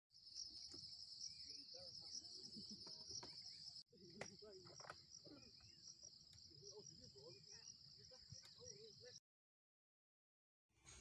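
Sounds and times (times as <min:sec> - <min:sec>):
soft insect chirps: 0:00.2 - 0:09.2.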